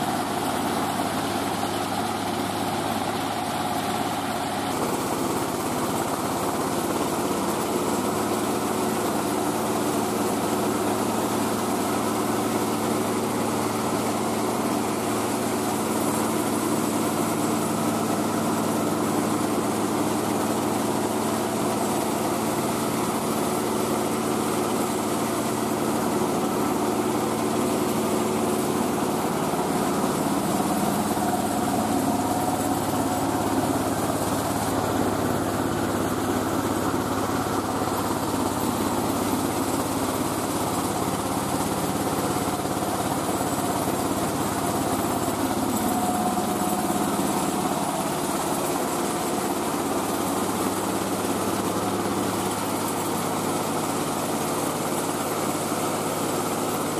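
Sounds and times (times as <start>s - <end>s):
rice mill engine running: 0.0s - 56.9s.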